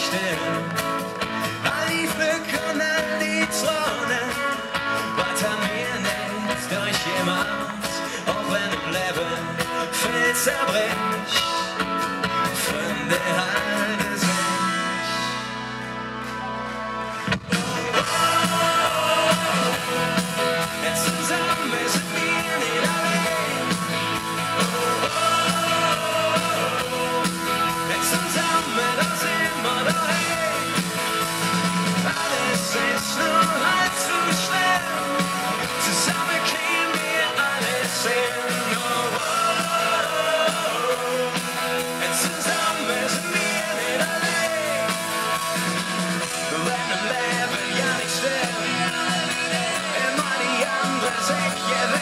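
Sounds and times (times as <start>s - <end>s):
drums: 0.0s - 52.0s
electric guitars: 0.0s - 52.0s
person singing: 0.0s - 52.0s.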